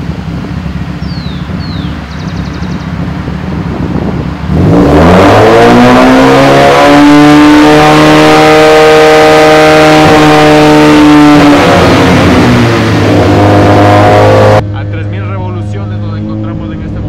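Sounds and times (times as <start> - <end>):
car engine revving loudly: 3.0 - 17.0.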